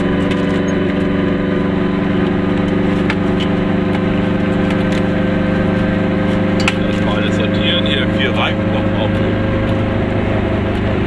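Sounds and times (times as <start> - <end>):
road noise: 0.0 - 11.0
two-stroke car engine cruising: 0.0 - 11.0.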